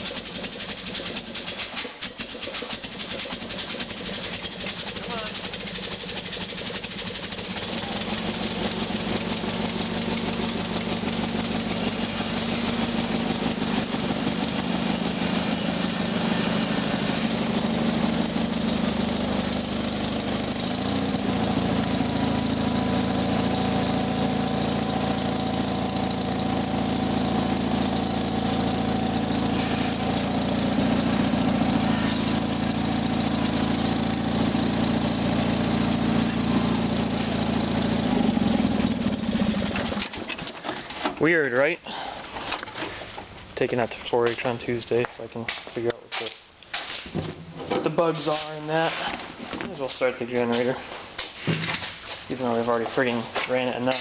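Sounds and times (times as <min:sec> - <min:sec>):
garden tractor engine running: 0:00.0 - 0:54.0.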